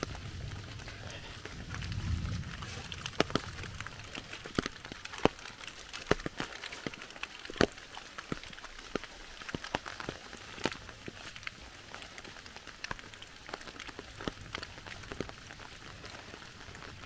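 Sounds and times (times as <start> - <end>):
drops dripping onto wet leaves: 0.0 - 17.0
light rain patter: 0.0 - 17.0.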